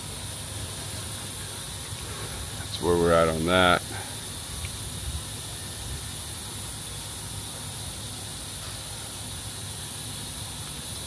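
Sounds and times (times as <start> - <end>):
machine humming and hissing: 0.0 - 11.0.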